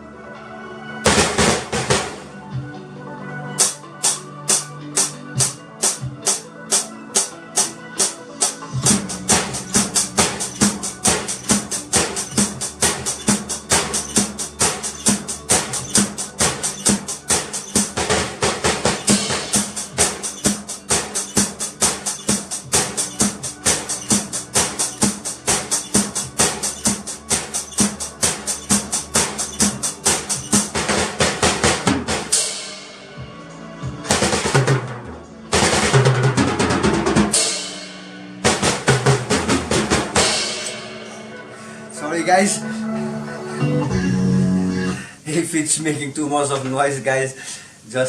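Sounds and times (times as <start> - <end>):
drum kit beat and fills: 1.0 - 2.8, 3.6 - 42.5.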